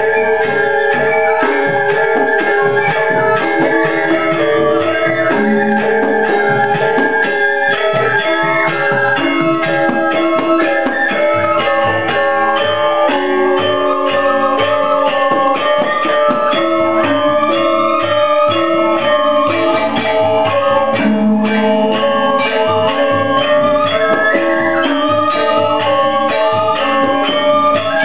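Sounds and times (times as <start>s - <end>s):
metallophones playing fast ringing notes: 0.0s - 28.0s.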